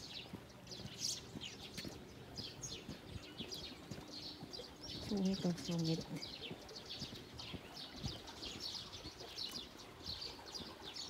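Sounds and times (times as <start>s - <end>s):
birds chirping: 0.0s - 11.0s
footsteps outdoors: 0.0s - 11.0s.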